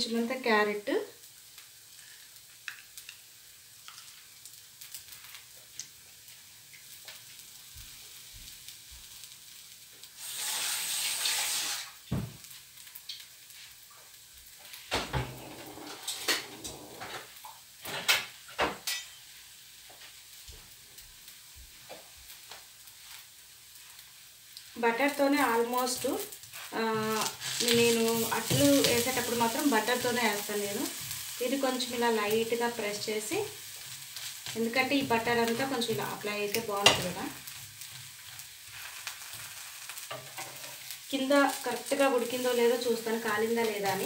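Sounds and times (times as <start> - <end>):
batter sizzling on a pan: 0.0 - 44.0.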